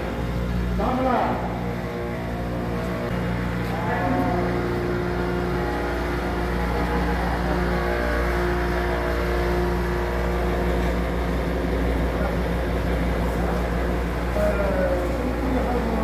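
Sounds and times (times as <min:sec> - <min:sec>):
higher steady tone: 0:00.0 - 0:16.0
pump motors humming: 0:00.0 - 0:16.0.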